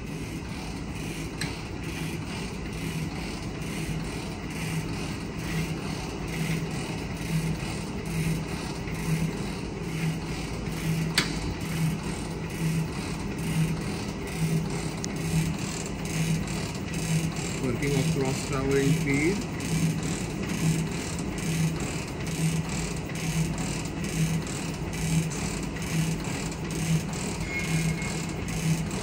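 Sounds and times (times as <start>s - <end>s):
slotting machine humming: 0.0s - 29.0s.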